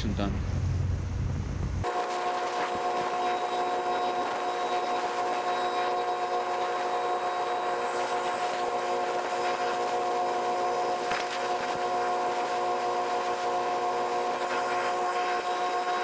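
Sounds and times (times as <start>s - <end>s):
steady multi-tone whine: 0.0s - 16.0s
water jet spraying on metal tubes: 1.9s - 16.0s.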